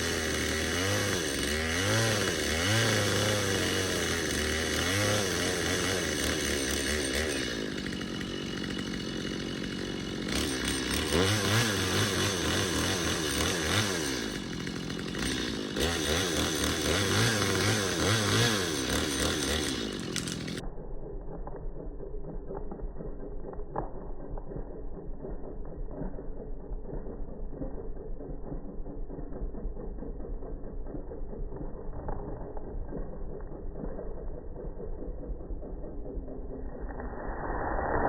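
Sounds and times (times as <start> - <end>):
chainsaw revving: 0.0 - 37.5.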